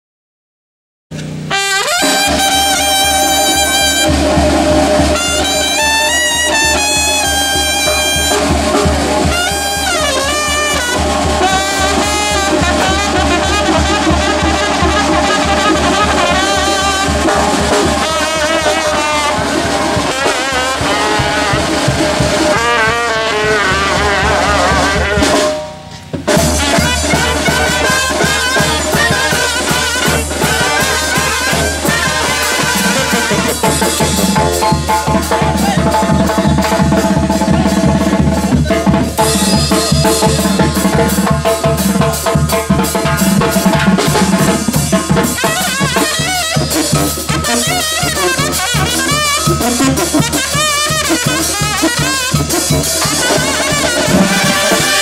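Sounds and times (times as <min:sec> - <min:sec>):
brass band playing: 0:01.2 - 0:55.0.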